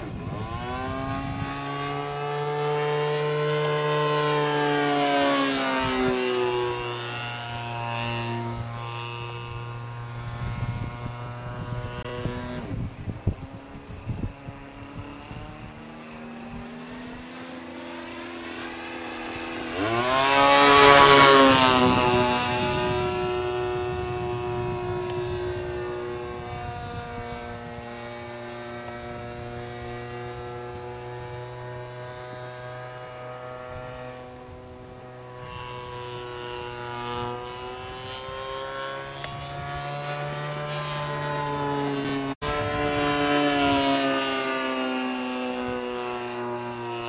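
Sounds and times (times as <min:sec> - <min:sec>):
model plane engine passing: 0:00.0 - 0:47.0.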